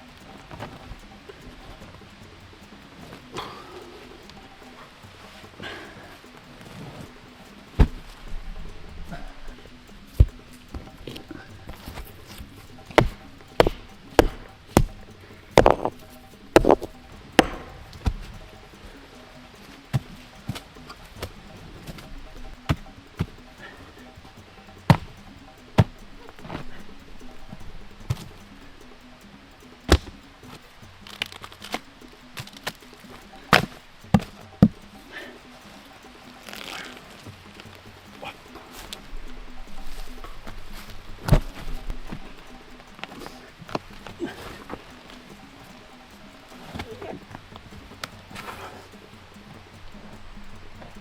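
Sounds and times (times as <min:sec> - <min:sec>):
wood being struck: 0:00.0 - 0:51.0.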